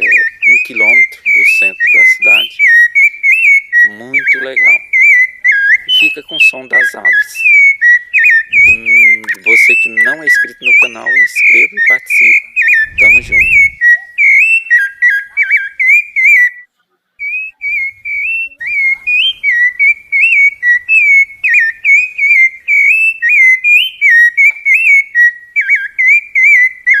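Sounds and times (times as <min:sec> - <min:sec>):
thrush singing whistled notes: 0:00.0 - 0:27.0.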